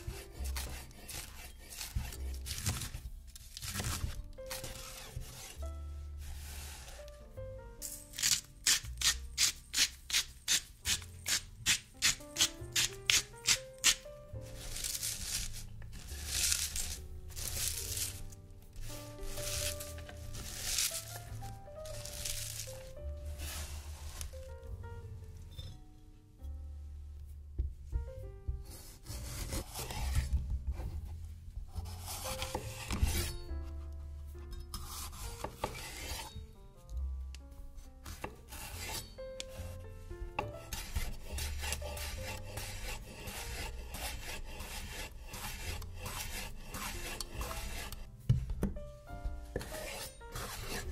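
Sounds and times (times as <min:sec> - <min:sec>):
soft background music: 0:00.0 - 0:50.9.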